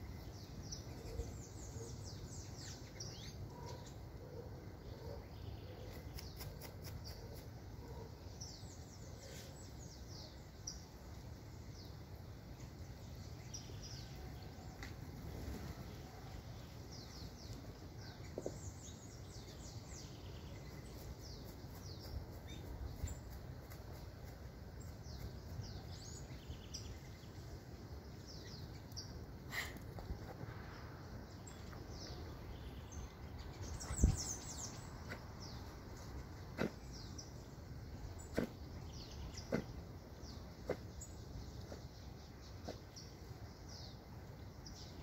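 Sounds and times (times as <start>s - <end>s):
small birds chirping: 0.0s - 45.0s
low outdoor background rumble: 7.6s - 45.0s.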